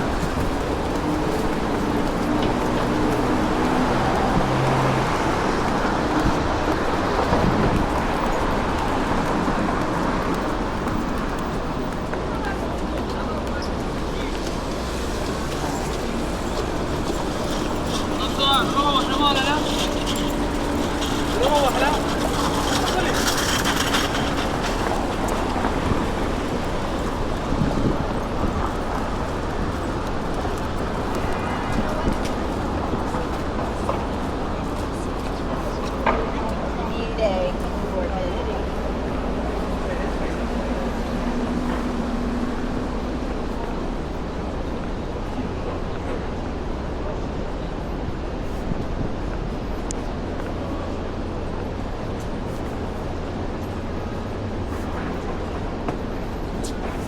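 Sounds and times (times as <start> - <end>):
passing vehicles: 0.0 - 57.0
traffic rumble: 0.0 - 57.0.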